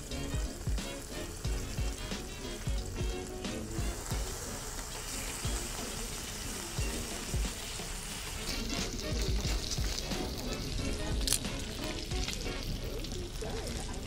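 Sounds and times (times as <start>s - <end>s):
background music: 0.0s - 13.5s
bacon sizzling in a pan: 0.0s - 14.0s.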